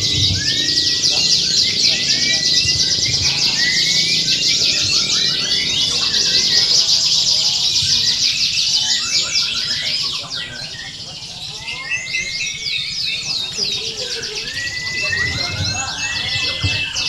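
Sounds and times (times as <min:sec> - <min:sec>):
canaries singing: 0:00.0 - 0:17.0.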